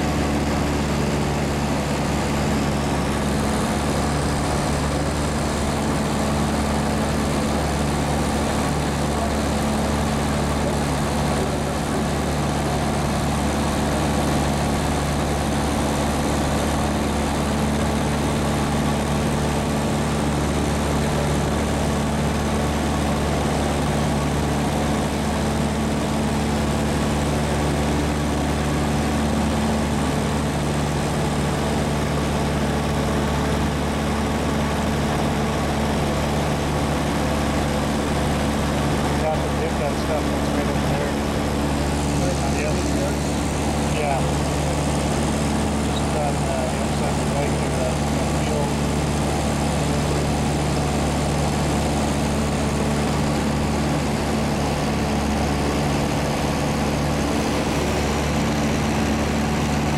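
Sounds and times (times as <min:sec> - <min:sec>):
aircraft engine and propeller droning: 0:00.0 - 0:59.9
broad rushing noise: 0:00.0 - 0:59.9.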